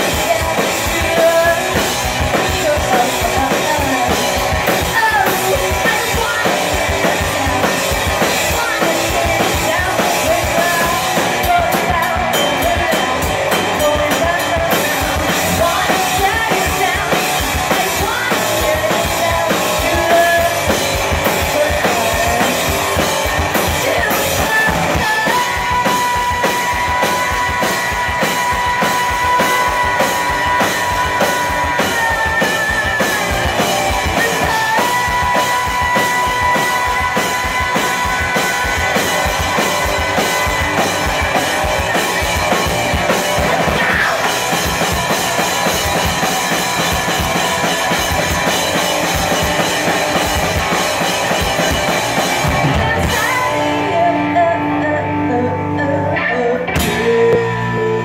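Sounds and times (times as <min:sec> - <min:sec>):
fast steady drum beat: 0:00.0 - 0:53.9
live rock band playing: 0:00.0 - 0:58.0.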